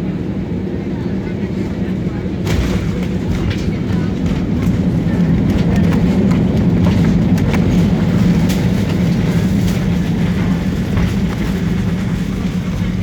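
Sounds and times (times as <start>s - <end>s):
engine and wheel rumble: 0.0s - 13.0s
light cabin rattles: 2.2s - 13.0s.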